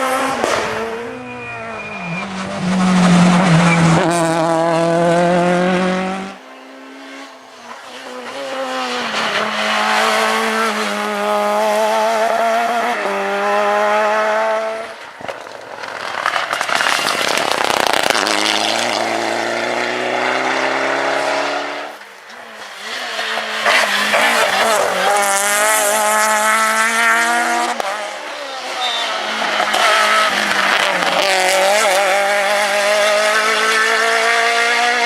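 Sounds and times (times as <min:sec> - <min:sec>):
rally car engines revving: 0:00.0 - 0:35.0
rough noise: 0:00.0 - 0:35.0.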